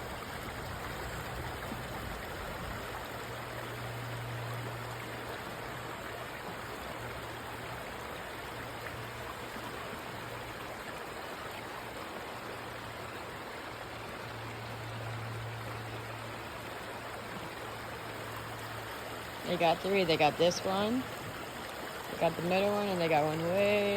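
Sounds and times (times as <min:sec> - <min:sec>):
river water rushing over rock: 0:00.0 - 0:23.9.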